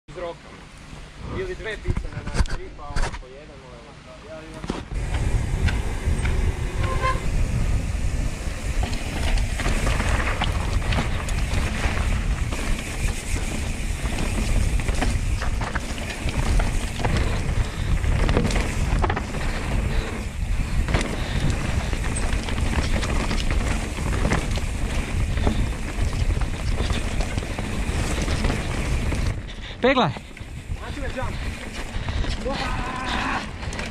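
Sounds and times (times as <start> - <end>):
bike knocks and rattles: 4.6 - 29.6, 30.2 - 33.9
wind buffeting microphone: 4.8 - 33.9.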